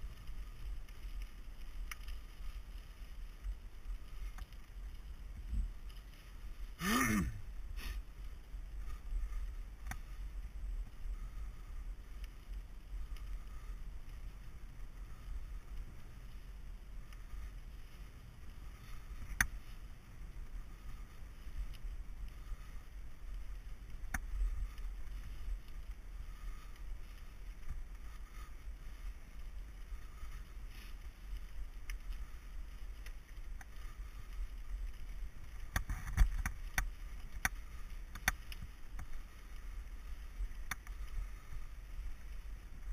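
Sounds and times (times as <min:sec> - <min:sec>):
bike clicking and rattling: 0:00.0 - 0:42.9
bike tyres rumbling on gravel: 0:00.0 - 0:42.9.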